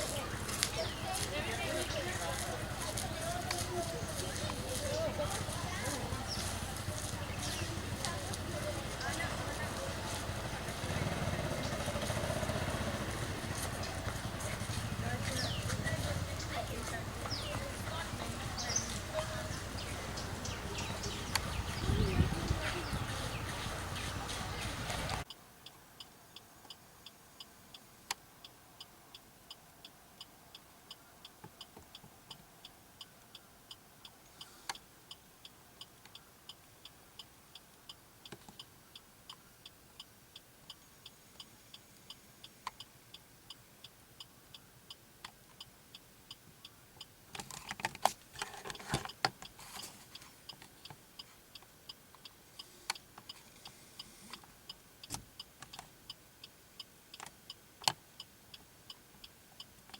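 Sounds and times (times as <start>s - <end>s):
faint regular ticking: 0.0s - 59.9s.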